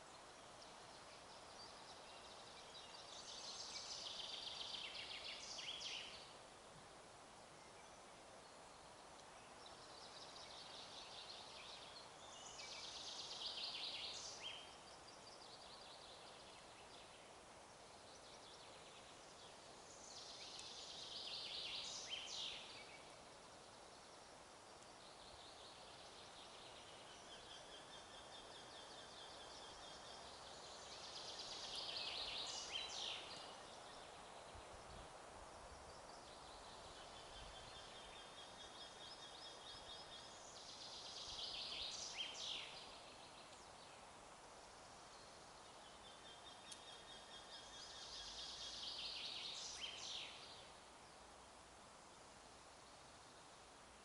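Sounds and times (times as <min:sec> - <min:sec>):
faint wind hiss: 0:00.0 - 0:54.0.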